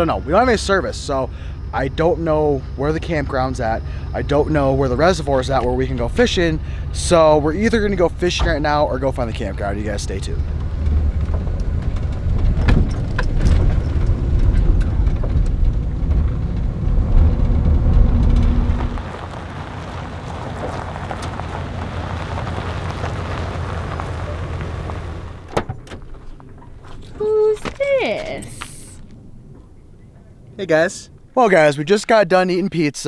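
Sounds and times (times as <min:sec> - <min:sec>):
van engine and road rumble: 0:00.0 - 0:32.6.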